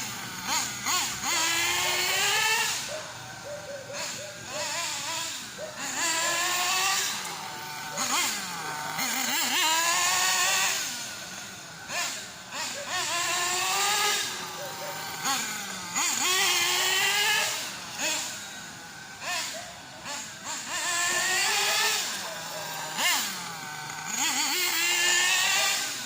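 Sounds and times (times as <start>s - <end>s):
rc buggy nitro engine revving: 0.0s - 26.0s.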